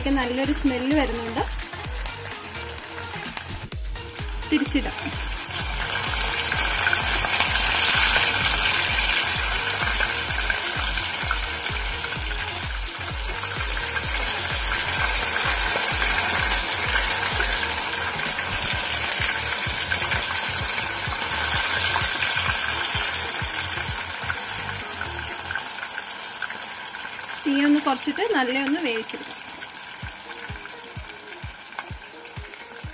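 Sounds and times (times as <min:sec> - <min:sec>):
chicken sizzling in hot oil: 0:00.0 - 0:32.9.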